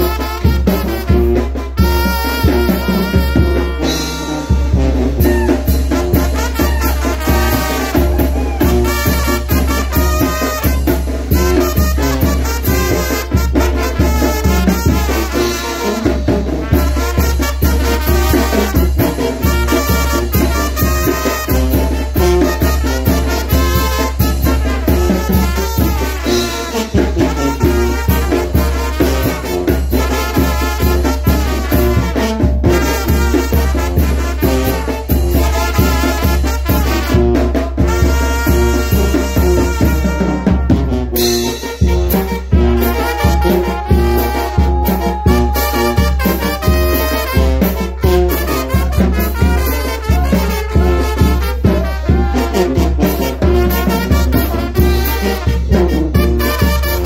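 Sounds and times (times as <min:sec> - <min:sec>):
steady drum beat: 0:00.0 - 0:57.0
trumpets playing: 0:00.0 - 0:57.0.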